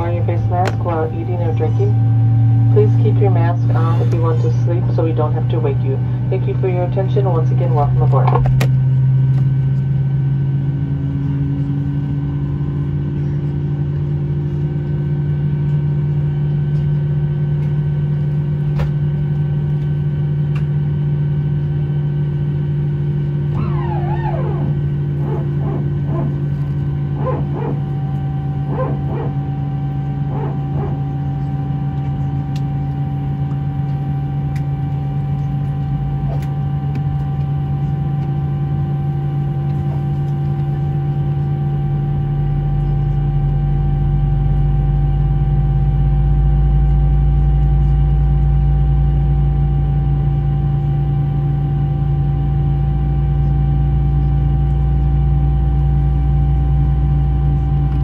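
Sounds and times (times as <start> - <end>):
airliner cabin hum: 0.0 - 58.0
deep rumble: 0.0 - 58.0.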